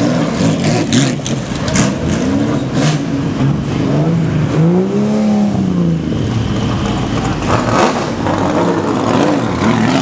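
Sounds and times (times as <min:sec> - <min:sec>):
sports car engines revving: 0:00.0 - 0:10.0.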